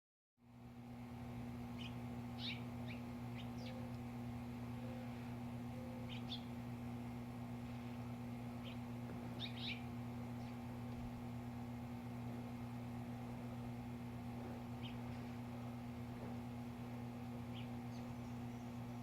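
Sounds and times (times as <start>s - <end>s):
steady low hum: 0.4s - 19.0s
small birds chirping: 1.3s - 19.0s.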